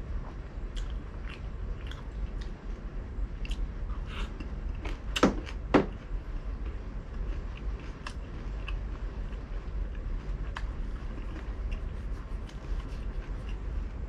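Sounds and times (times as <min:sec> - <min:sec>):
low hum: 0:00.0 - 0:14.0
person chewing with mouth clicks: 0:00.7 - 0:02.6, 0:03.4 - 0:05.6, 0:06.6 - 0:14.0.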